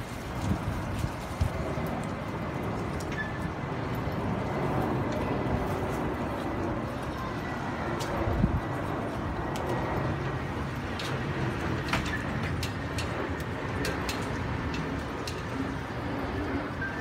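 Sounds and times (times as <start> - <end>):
distant traffic: 0.0 - 17.0
wind: 0.0 - 17.0.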